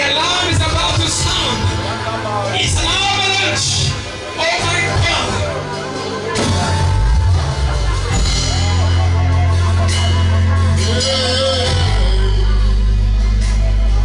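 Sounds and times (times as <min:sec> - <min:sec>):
deep bass notes: 0:00.0 - 0:14.0
drums: 0:00.0 - 0:14.0
worship band music: 0:00.0 - 0:14.0.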